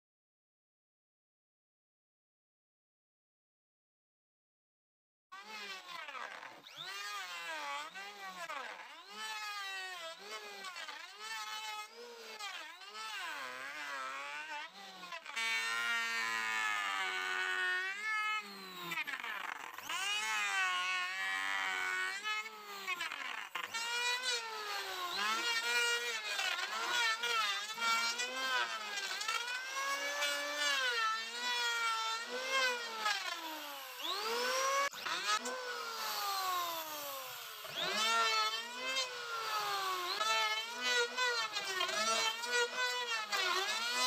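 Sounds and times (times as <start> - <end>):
electric hand planer shaving wood: 5.4 - 44.0.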